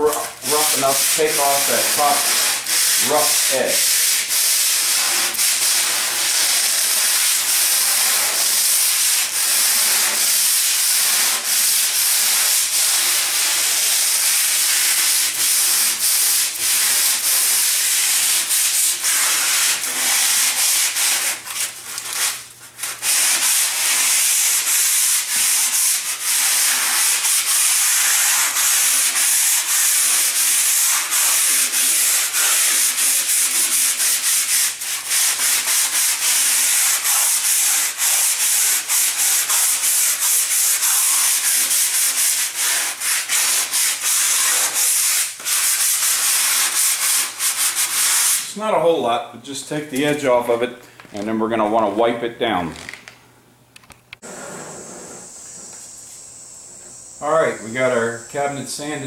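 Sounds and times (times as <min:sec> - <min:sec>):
sandpaper rasping: 0:00.0 - 0:48.5.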